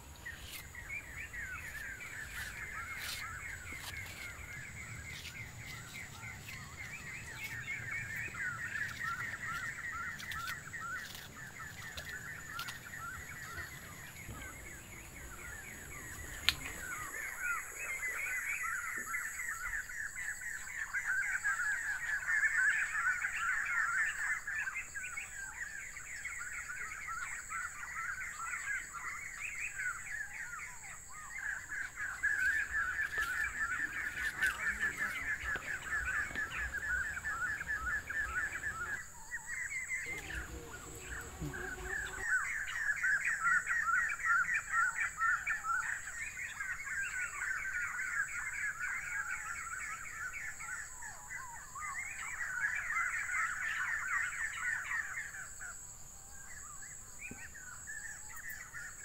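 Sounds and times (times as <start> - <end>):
birds chattering and calling: 0.0 - 59.0.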